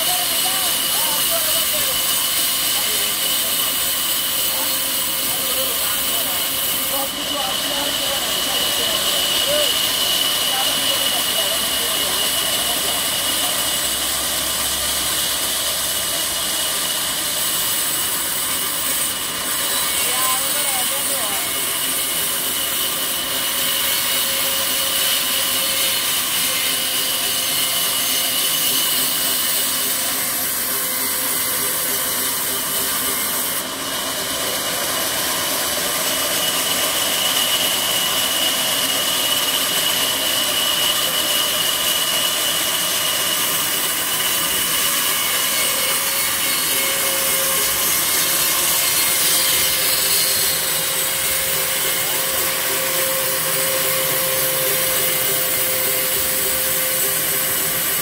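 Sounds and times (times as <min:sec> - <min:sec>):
band saw cutting wood: 0:00.0 - 0:58.0.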